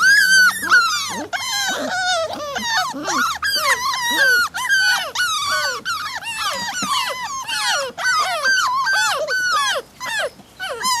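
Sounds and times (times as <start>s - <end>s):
puppy whining and yelping: 0.0s - 11.0s.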